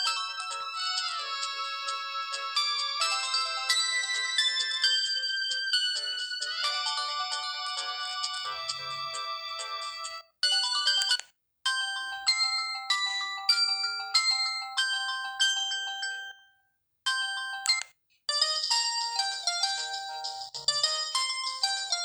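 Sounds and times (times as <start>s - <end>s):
electronic ringtone melodies: 0.0s - 16.4s, 17.1s - 22.0s.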